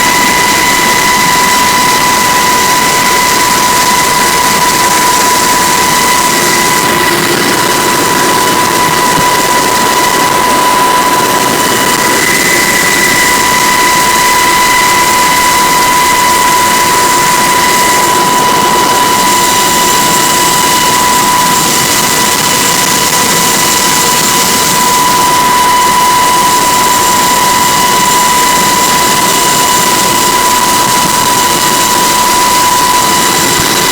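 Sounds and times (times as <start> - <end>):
helicopter engines and rotor roar: 0.0 - 33.9.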